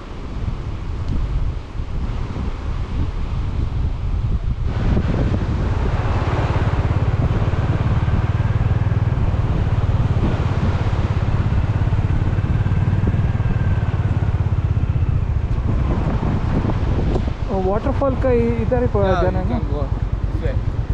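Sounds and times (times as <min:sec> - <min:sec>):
motorcycle engine running: 0:03.2 - 0:20.9.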